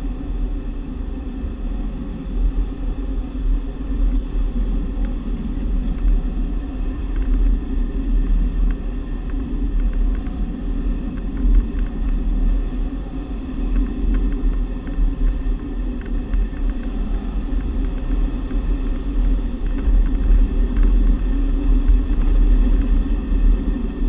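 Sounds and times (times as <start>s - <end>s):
airflow rumble and buffeting: 0.0s - 24.0s.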